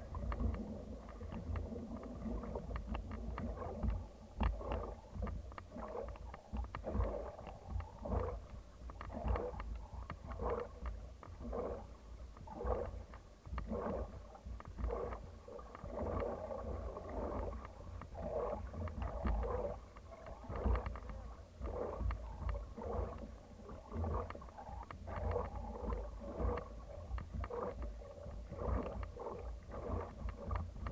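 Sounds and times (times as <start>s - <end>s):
paddles pulling through water: 0.0s - 30.9s.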